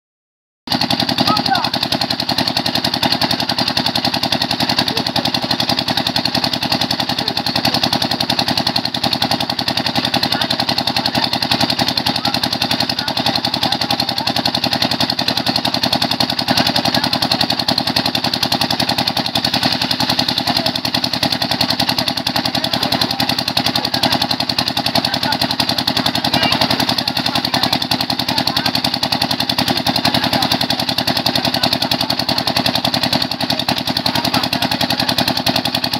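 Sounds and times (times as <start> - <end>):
pump engine running: 0.7 - 35.9.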